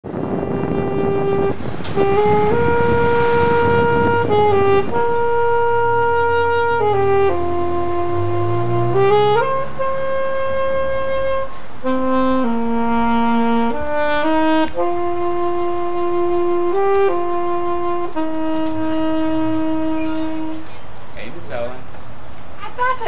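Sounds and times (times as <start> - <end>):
solo wind instrument melody: 0.0 - 21.0.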